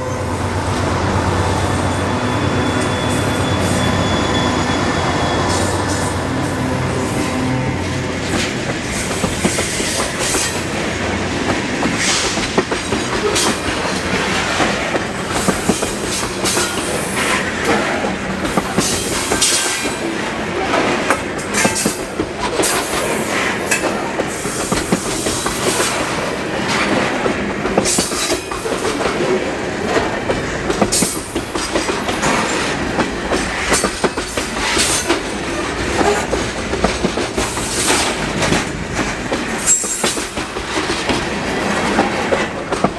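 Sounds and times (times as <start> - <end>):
train wheels clacking over rail joints: 7.8 - 42.9.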